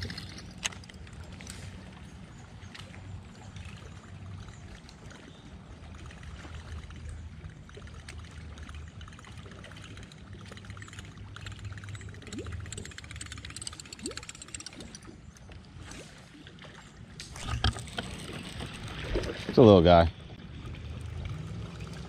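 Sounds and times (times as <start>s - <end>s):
low steady hum: 0.0s - 22.0s
water lapping against boat hull: 0.0s - 22.0s.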